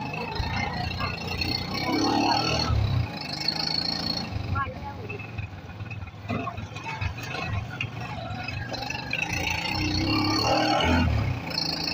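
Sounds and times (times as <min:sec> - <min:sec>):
motorcycle engine running: 0:00.0 - 0:11.9
road and traffic noise: 0:00.0 - 0:11.9.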